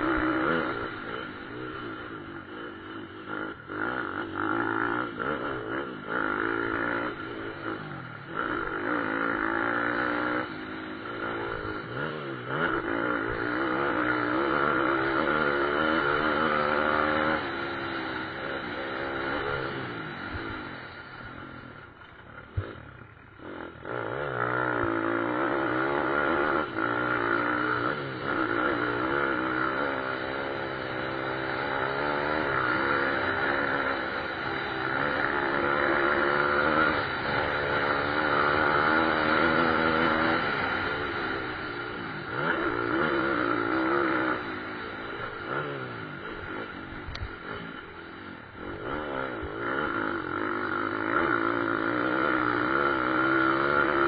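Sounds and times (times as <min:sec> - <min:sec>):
motorcycle engines racing: 0:00.0 - 0:54.0.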